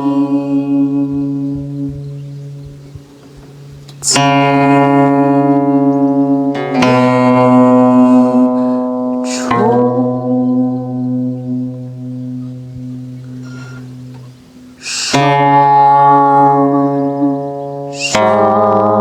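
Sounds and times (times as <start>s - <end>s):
low held singing voices: 0.0s - 19.0s.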